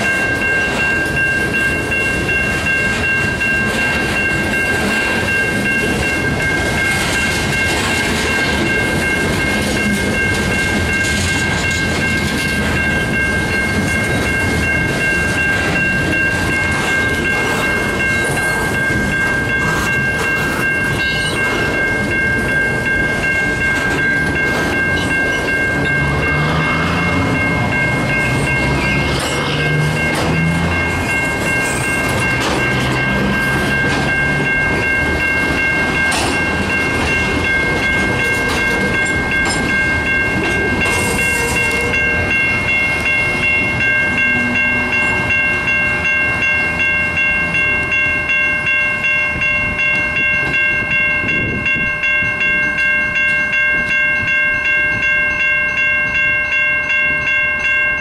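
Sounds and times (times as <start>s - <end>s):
train wheels clattering on rails: 0.0s - 48.5s
crossing bell ringing: 0.0s - 58.0s.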